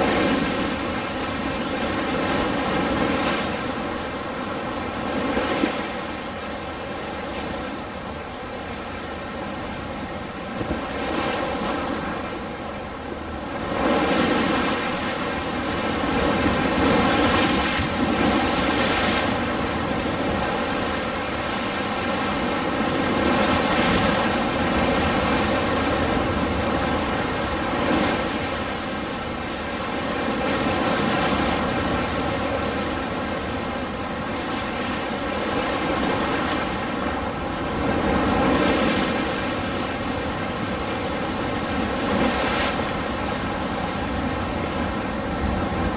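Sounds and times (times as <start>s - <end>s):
ocean waves washing on shore: 0.0s - 45.9s.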